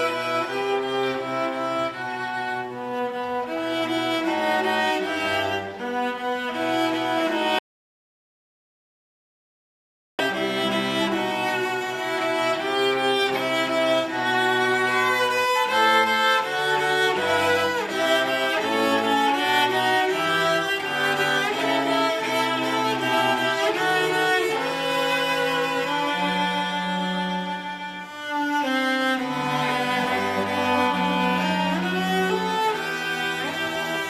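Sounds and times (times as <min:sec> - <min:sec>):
bowed string ensemble: 0:00.0 - 0:07.6, 0:10.2 - 0:34.0.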